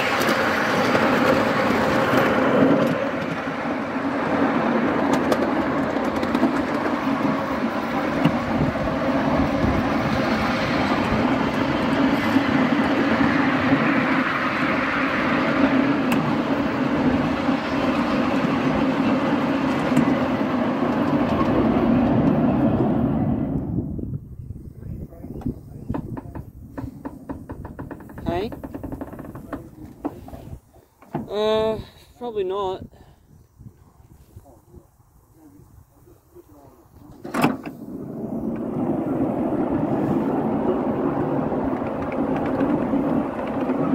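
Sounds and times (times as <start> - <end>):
train wheels rattling on rails: 0.0 - 23.6, 25.4 - 31.8, 36.2 - 43.9.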